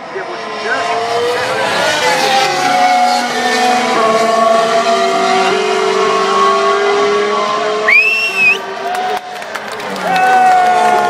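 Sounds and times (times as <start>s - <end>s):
racing car engine passing: 0.0s - 11.0s.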